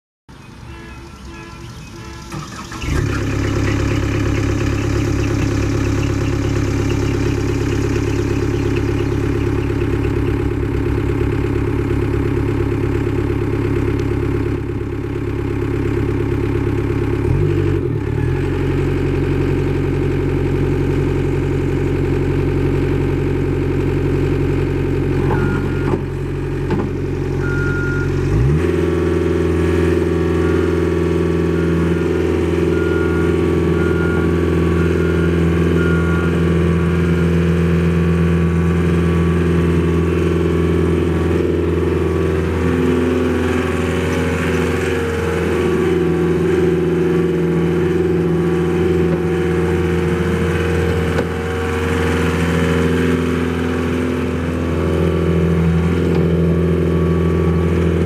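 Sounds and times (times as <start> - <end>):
diesel engine idling: 0.3 - 58.0.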